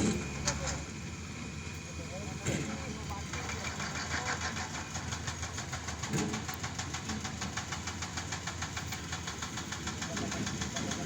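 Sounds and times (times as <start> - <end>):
heavy diesel engine clattering: 0.0 - 11.0.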